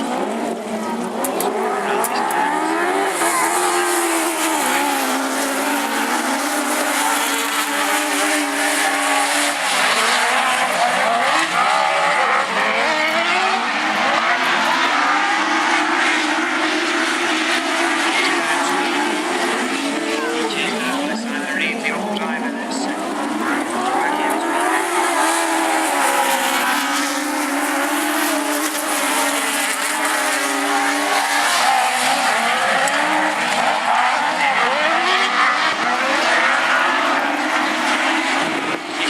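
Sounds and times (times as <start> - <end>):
race car engines revving: 0.0 - 39.0.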